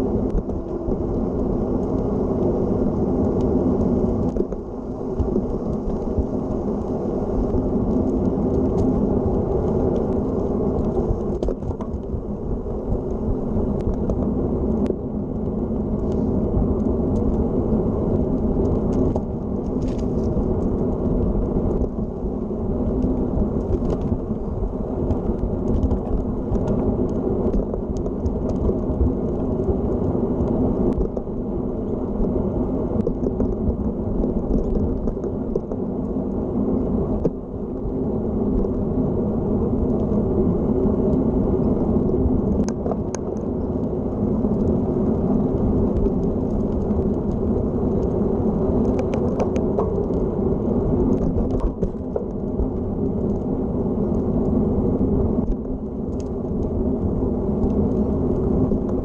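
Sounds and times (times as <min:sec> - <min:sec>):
bike tyres rumbling on asphalt: 0:00.0 - 0:59.0
wind buffeting microphone: 0:00.0 - 0:59.0.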